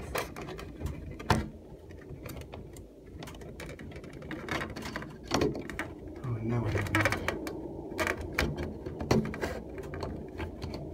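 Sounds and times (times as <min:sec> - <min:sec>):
clicks and knocks handling fan housing: 0:00.0 - 0:10.9.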